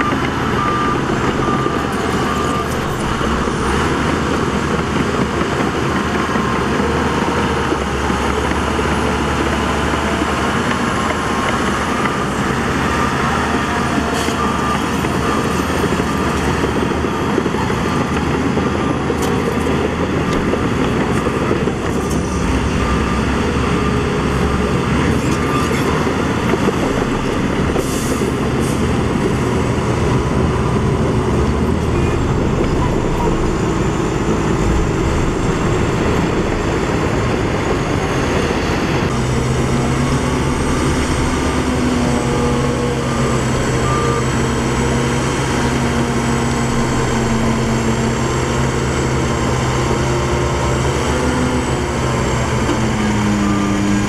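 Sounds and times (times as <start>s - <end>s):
heavy diesel engines running: 0.0s - 54.0s
steady engine hum: 0.0s - 54.0s.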